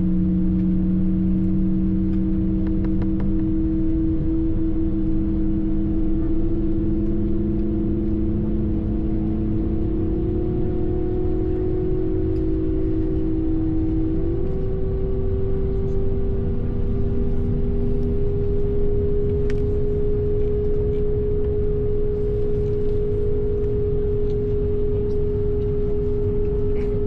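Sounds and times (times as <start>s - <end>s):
constant engine hum: 0.0s - 27.0s
steady low rumble: 0.0s - 27.0s.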